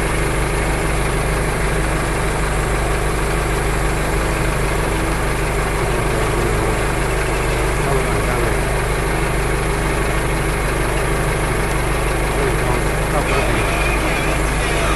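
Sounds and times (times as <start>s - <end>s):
steady machine drone: 0.0s - 14.9s.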